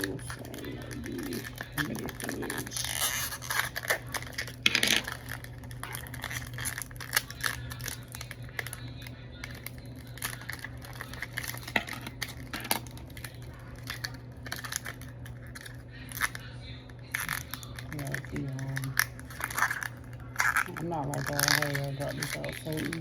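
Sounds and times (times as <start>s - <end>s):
low steady hum: 0.0s - 23.0s
plastic wrapping crinkling: 0.0s - 23.0s.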